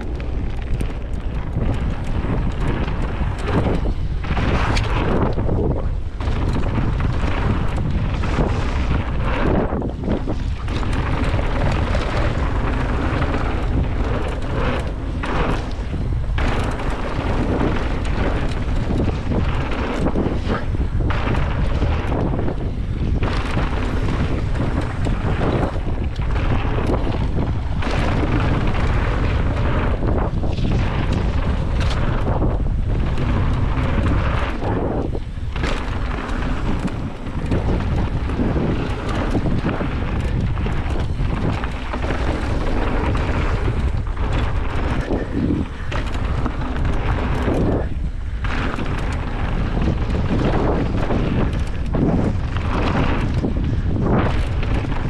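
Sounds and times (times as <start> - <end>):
bike tyres rolling over gravel: 0.0 - 55.0
wind buffeting microphone: 0.0 - 55.0.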